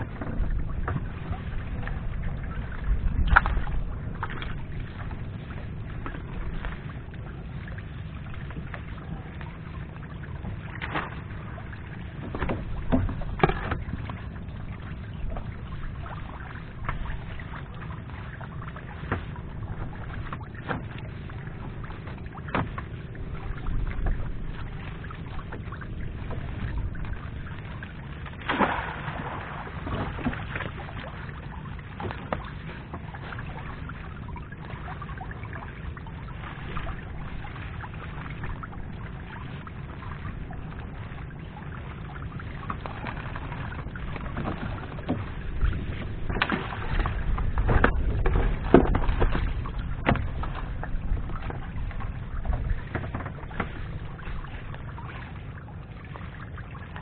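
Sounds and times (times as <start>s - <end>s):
sharp splashes and knocks: 0.0s - 9.7s, 10.4s - 41.1s, 41.8s - 57.0s
steady low rumble: 0.0s - 57.0s
water sloshing around boat: 0.0s - 57.0s.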